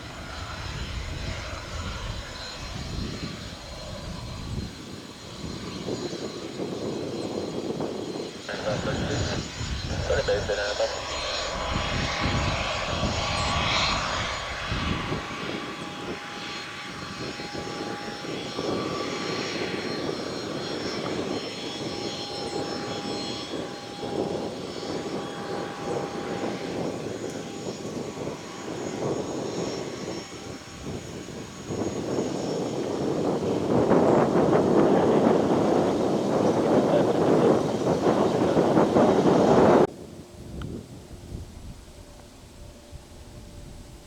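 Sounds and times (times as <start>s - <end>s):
airplane engines running: 0.0s - 44.0s.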